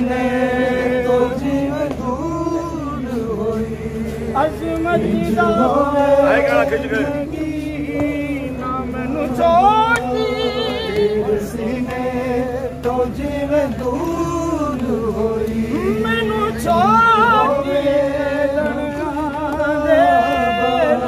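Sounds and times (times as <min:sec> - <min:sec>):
men chanting a mourning lament: 0:00.0 - 0:21.0.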